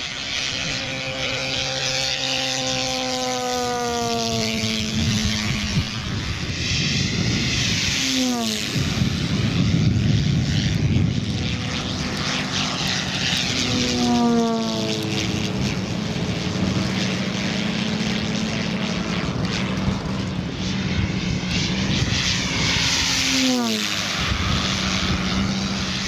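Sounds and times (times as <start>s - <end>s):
model plane propeller flying past: 0.0s - 26.0s.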